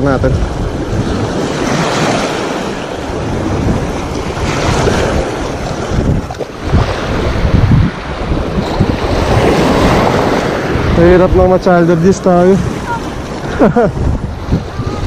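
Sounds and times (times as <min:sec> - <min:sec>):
wind rumbling on microphone: 0:00.0 - 0:15.0
small waves on rocky shore: 0:00.2 - 0:15.0.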